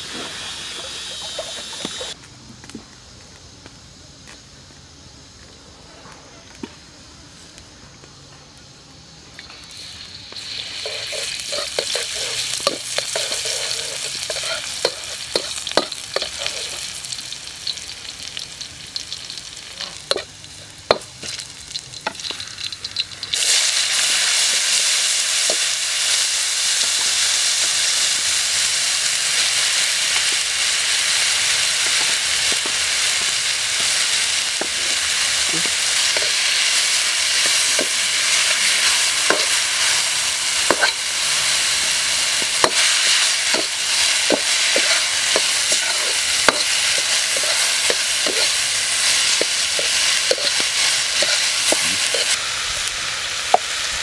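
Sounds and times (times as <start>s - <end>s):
garlic sizzling in oil: 0.0s - 2.2s, 9.4s - 54.0s
vegetables stir-frying: 0.0s - 2.2s, 9.4s - 54.0s.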